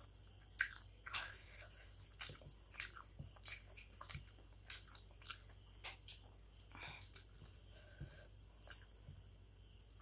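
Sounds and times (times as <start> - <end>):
person chewing with mouth smacks: 0.0 - 9.3.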